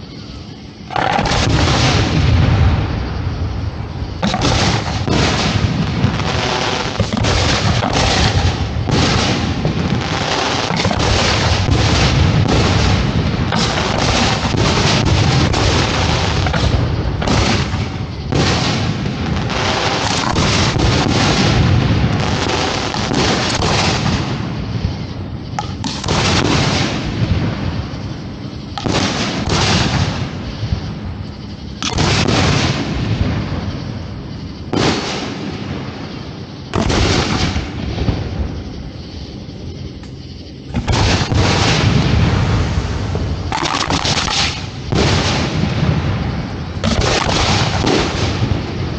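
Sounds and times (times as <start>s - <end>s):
fireworks booming and banging: 0.8s - 48.9s.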